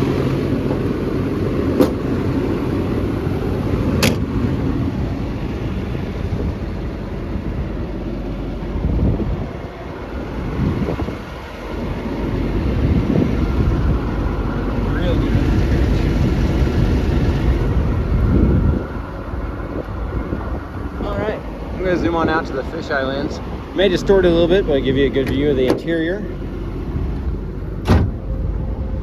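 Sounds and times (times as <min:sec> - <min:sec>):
excavator diesel engine rumble: 0:00.0 - 0:29.0.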